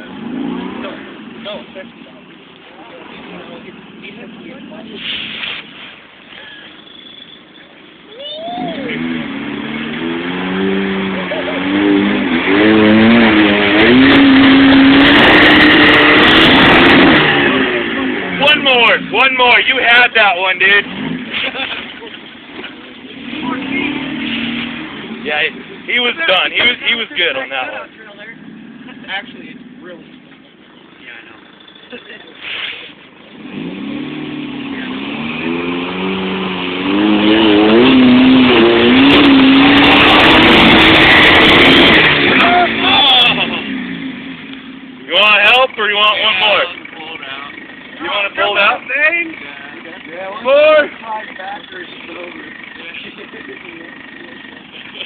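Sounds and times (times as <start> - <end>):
off-road vehicle engine revving: 0.0 - 6.8, 8.1 - 55.0.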